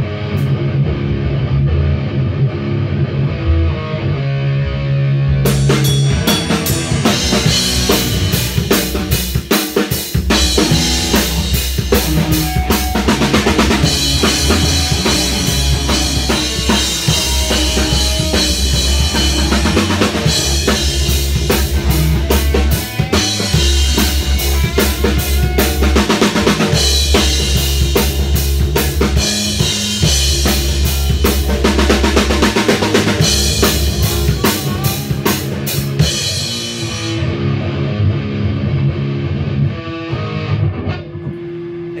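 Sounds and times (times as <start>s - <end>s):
drum kit: 0.0s - 2.1s, 5.1s - 42.0s
loud electric guitars: 0.0s - 42.0s.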